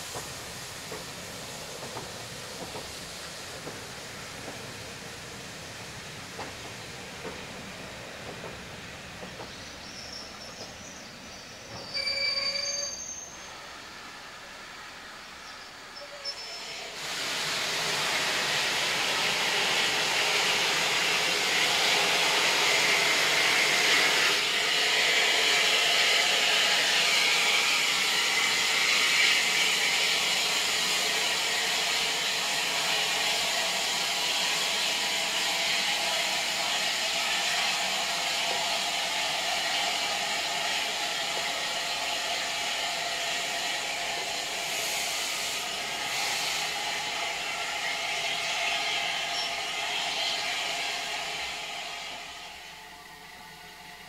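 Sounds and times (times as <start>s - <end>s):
steam hissing: 0.0s - 54.0s.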